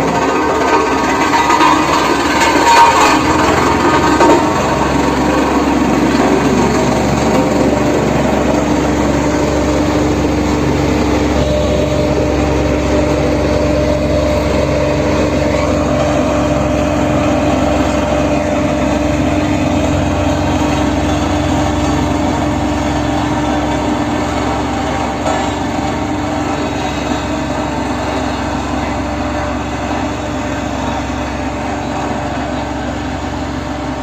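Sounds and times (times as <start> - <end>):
road roller engine rumbling: 0.0 - 34.0.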